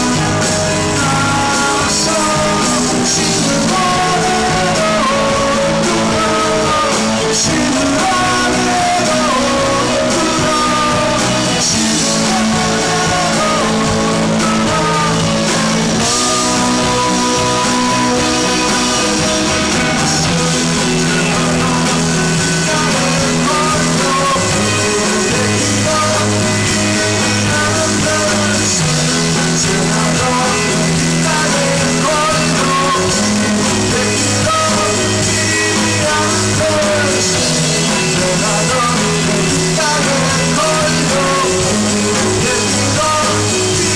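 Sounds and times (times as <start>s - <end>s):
bass guitar: 0.0s - 43.9s
drums: 0.0s - 43.9s
electric guitars: 0.0s - 43.9s
person singing: 0.0s - 43.9s.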